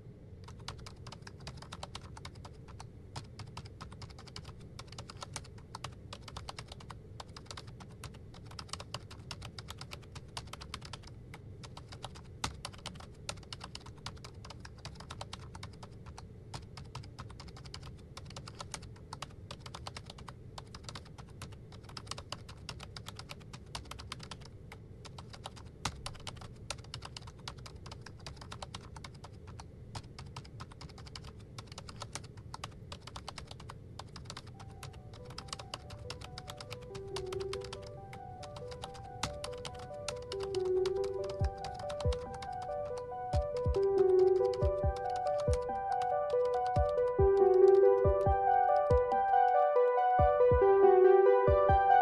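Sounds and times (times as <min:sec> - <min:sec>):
low steady hum: 0:00.0 - 0:52.0
typing on laptop keyboard: 0:00.4 - 0:49.6.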